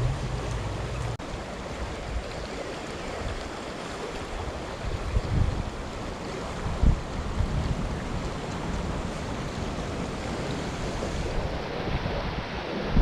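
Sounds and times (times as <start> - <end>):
creek water rushing: 0.0 - 13.0
wind buffeting microphone: 0.0 - 13.0.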